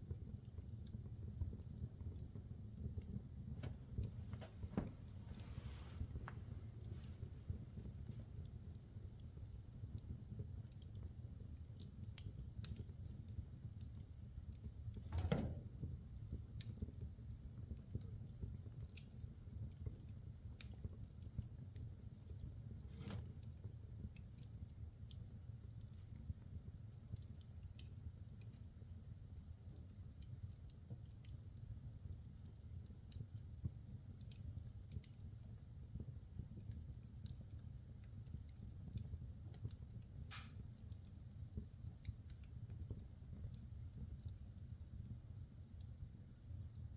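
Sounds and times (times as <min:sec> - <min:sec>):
logs crackling in fireplace: 0:00.0 - 0:46.9.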